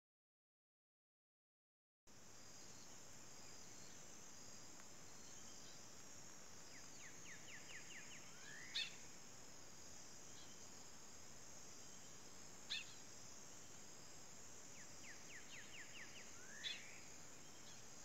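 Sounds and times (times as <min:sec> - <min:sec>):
insects buzzing: 0:02.1 - 0:18.0.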